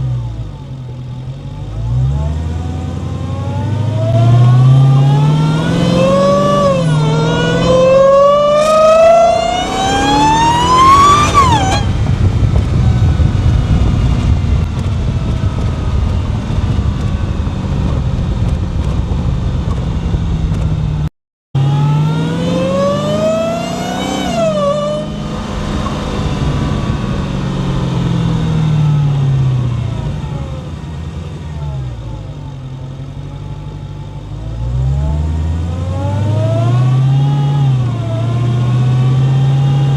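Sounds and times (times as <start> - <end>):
car engine accelerating hard: 0.0 - 39.9
supercharger whine: 0.0 - 39.9.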